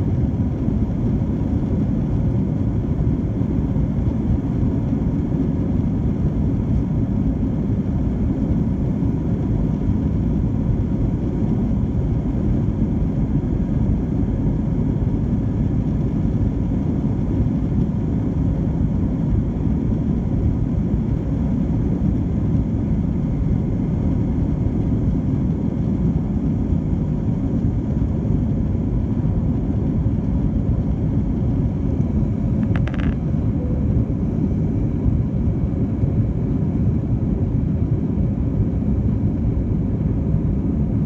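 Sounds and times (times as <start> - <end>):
airplane cabin engine roar: 0.0 - 41.0.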